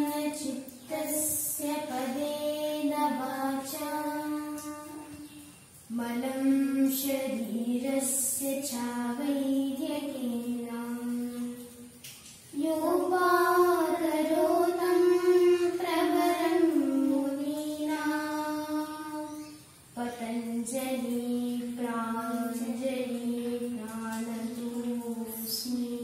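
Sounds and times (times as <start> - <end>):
girls chanting a prayer: 0.0 - 11.9, 12.5 - 26.0.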